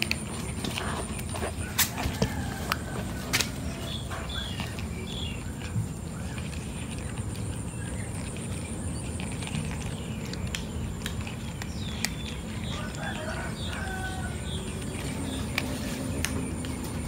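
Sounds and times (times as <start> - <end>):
kitten crunching kibble: 0.0 - 17.0
low background rumble: 0.0 - 17.0.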